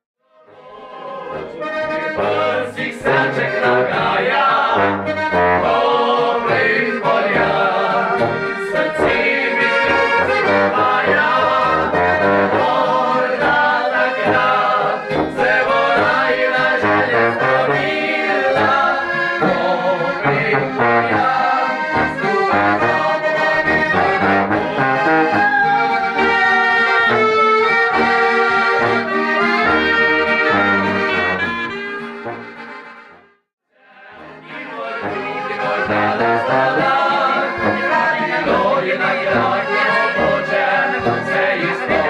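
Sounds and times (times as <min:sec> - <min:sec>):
accordion: 0:00.4 - 0:33.4, 0:34.0 - 0:42.0
guitar: 0:01.3 - 0:33.3, 0:34.2 - 0:42.0
brass horn: 0:01.3 - 0:33.4, 0:34.1 - 0:42.0.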